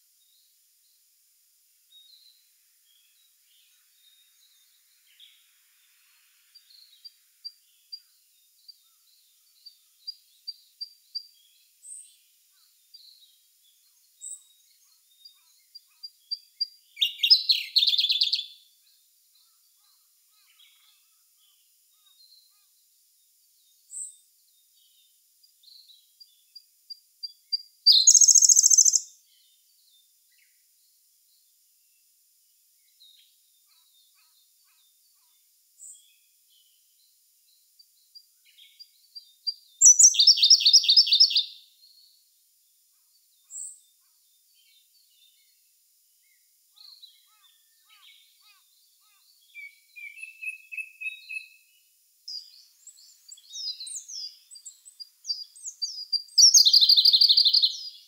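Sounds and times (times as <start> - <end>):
bird singing trilled song: 1.9 - 5.6, 6.5 - 22.8, 23.6 - 31.5, 32.8 - 42.3, 43.2 - 58.0.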